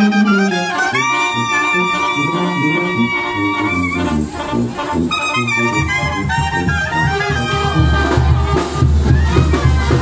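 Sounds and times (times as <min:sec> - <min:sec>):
brass band music: 0:00.0 - 0:10.0
deep bass line: 0:00.0 - 0:10.0.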